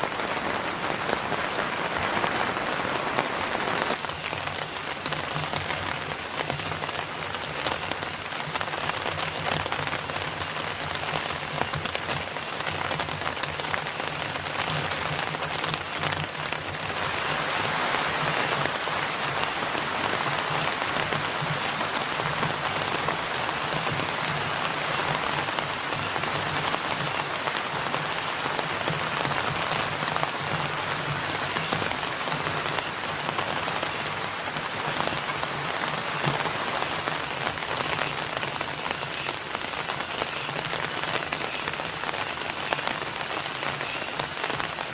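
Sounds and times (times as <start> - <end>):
rain pattering: 0.0 - 44.9.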